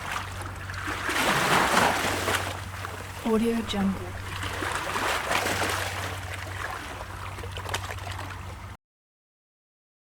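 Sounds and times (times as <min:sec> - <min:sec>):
sea waves splashing against rocks: 0:00.0 - 0:08.3.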